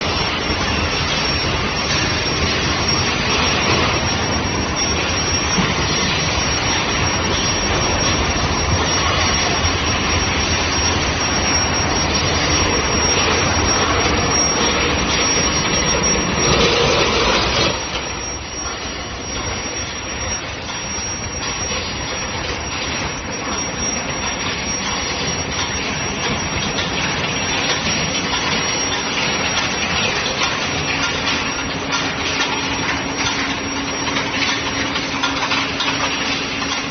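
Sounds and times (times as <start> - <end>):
dense machinery noise: 0.0 - 36.9
high-pitched whine: 0.0 - 36.9.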